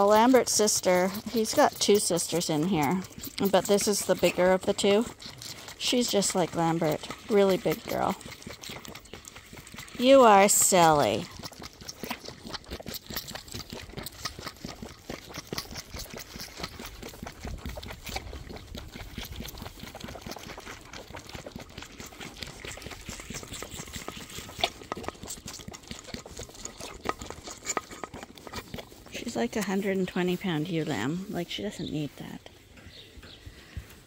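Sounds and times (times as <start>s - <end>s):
lamb slurping from bottle: 0.0s - 34.0s.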